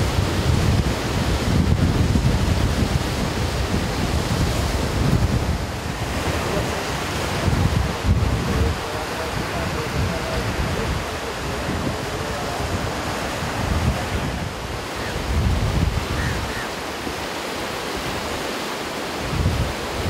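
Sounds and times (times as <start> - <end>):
wind buffeting microphone: 0.0 - 18.5, 19.2 - 20.0
ocean surf breaking on beach: 0.0 - 20.0.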